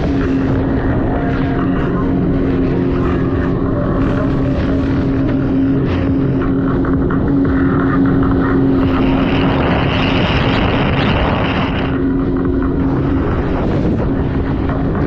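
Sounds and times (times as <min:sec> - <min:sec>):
rushing water noise: 0:00.0 - 0:14.8
jet ski engine running: 0:00.0 - 0:15.0.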